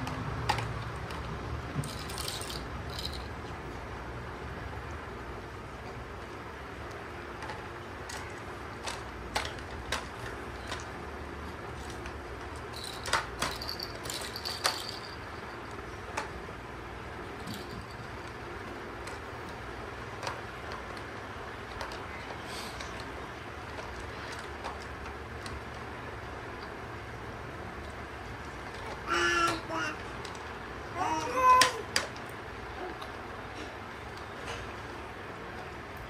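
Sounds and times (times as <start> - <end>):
low background hum: 0.0 - 36.0.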